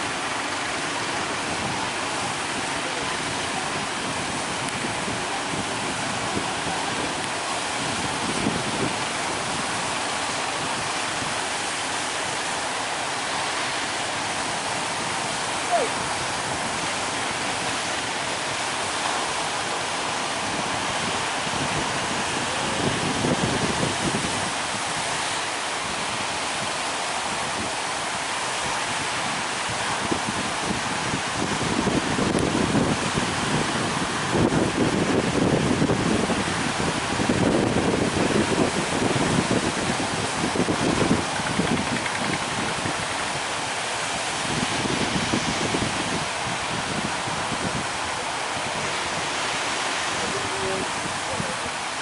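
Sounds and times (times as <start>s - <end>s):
waves breaking: 0.0s - 52.0s.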